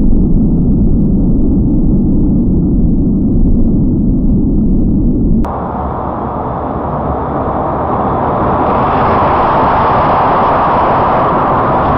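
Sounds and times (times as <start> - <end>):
deep rumble: 0.0 - 11.9.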